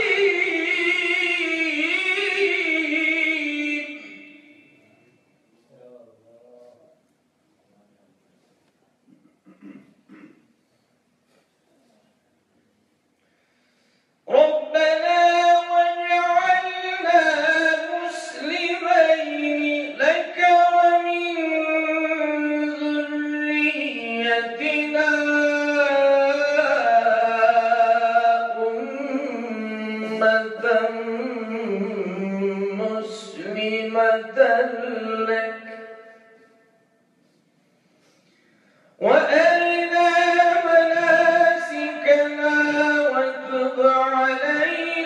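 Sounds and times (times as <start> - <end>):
man chanting recitation: 0.0 - 8.8, 14.3 - 36.4, 39.0 - 45.0.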